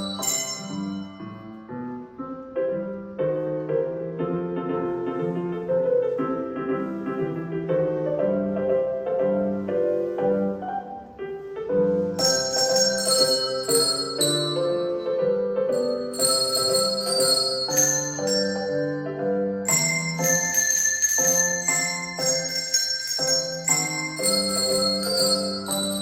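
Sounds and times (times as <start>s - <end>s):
piano chords over bass line: 0.0s - 26.0s.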